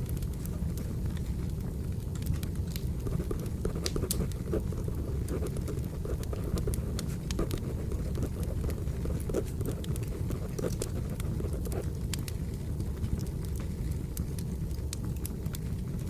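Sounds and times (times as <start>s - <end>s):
fire crackles and pops: 0.0s - 16.0s
firewood burning low rumble: 0.0s - 16.0s.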